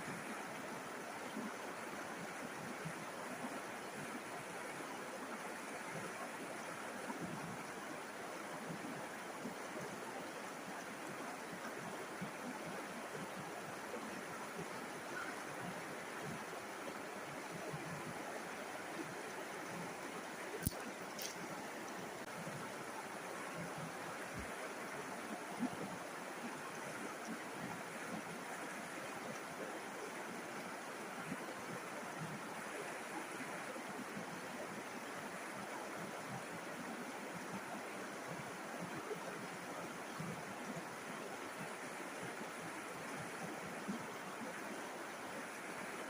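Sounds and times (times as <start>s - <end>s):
river water flowing: 0.0s - 46.0s.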